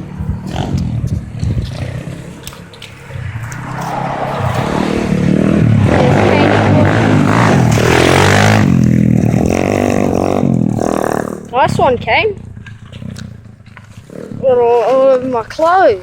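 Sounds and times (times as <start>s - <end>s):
motorbike engine revving past: 0.0s - 15.3s.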